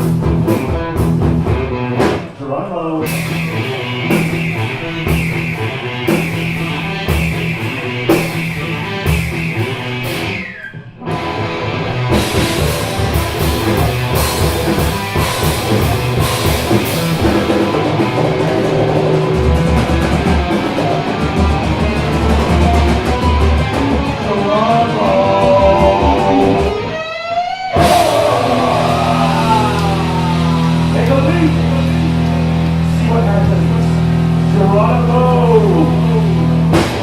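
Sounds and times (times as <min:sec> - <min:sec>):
rock band playing live: 0:00.0 - 0:02.4, 0:03.0 - 0:37.0.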